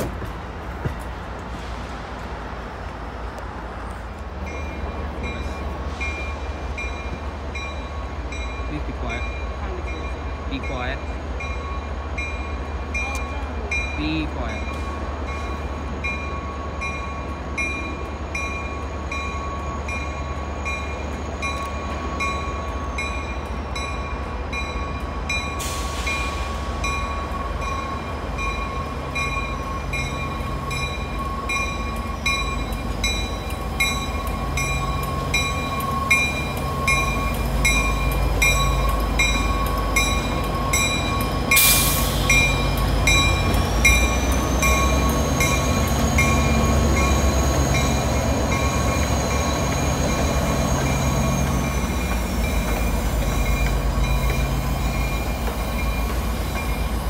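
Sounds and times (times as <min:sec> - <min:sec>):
diesel locomotive engine rumble: 0:00.0 - 0:57.0
locomotive bell ringing: 0:04.4 - 0:57.0.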